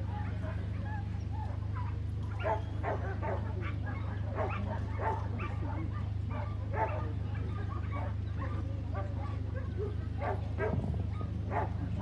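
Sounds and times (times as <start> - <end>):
low steady hum: 0.0 - 12.0
dog barking: 1.8 - 11.8.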